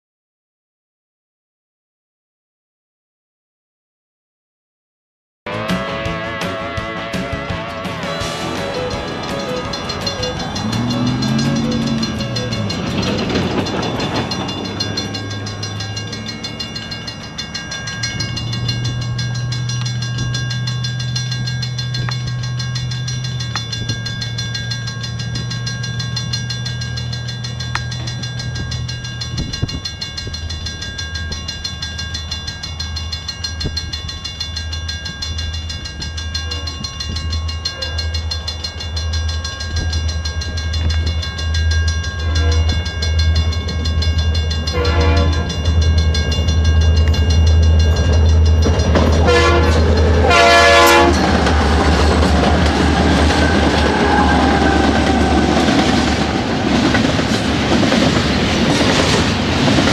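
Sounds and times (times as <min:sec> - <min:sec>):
freight train locomotives droning: 0:05.5 - 0:59.9.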